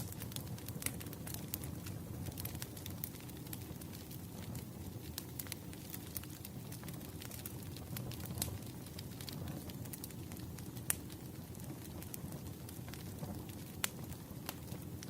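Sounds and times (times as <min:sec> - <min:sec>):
fire crackling and popping: 0:00.0 - 0:15.0
firewood burning: 0:00.0 - 0:15.0.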